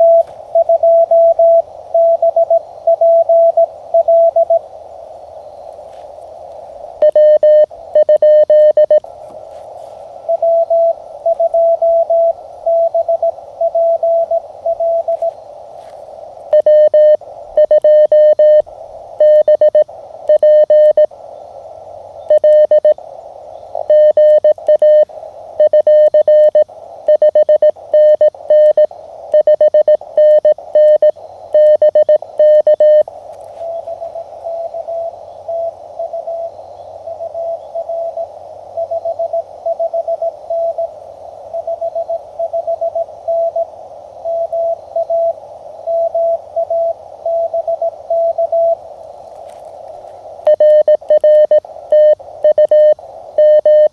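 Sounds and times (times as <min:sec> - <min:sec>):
morse code beeps: 0:00.0 - 0:04.6, 0:07.0 - 0:09.0, 0:09.8 - 0:18.6, 0:19.2 - 0:21.1, 0:22.3 - 0:23.0, 0:23.8 - 0:40.9, 0:41.5 - 0:48.8, 0:50.4 - 0:53.9
quieter higher morse code: 0:00.0 - 0:04.6, 0:07.0 - 0:21.1, 0:22.3 - 0:23.0, 0:23.8 - 0:53.9
receiver hiss: 0:00.0 - 0:53.9.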